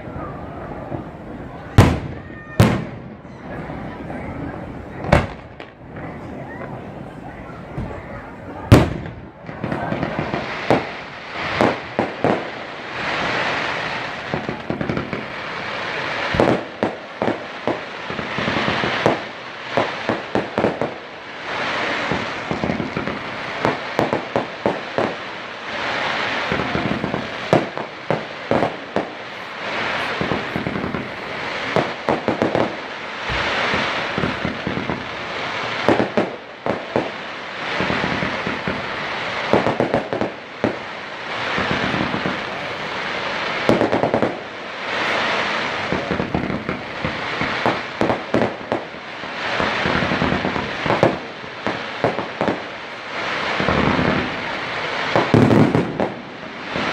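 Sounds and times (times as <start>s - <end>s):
fireworks bangs: 0.0s - 56.9s
fireworks crackling: 0.0s - 56.9s
fireworks hiss: 3.7s - 56.9s.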